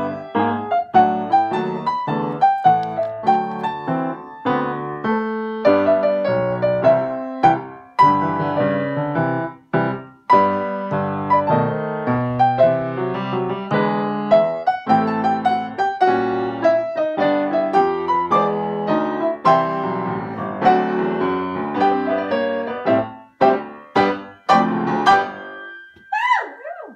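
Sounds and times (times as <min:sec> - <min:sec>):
grand piano duet: 0:00.0 - 0:26.9.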